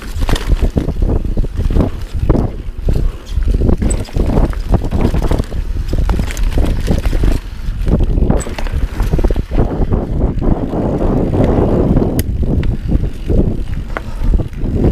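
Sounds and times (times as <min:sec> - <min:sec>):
bike clicks and rattles: 0:00.0 - 0:14.9
bike tyres rumbling on gravel: 0:00.0 - 0:14.9
wind buffeting microphone: 0:00.0 - 0:14.9.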